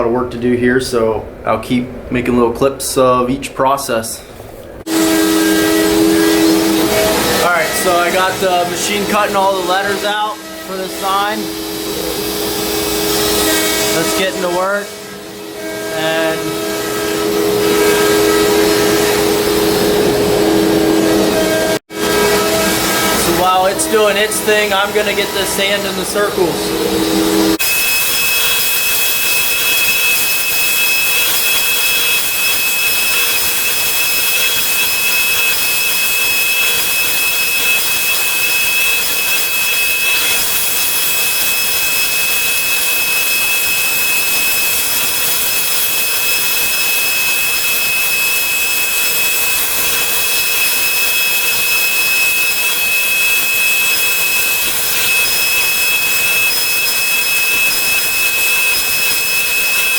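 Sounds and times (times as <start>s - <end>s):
router cutting wood: 4.9s - 59.9s
sanding: 4.9s - 59.9s.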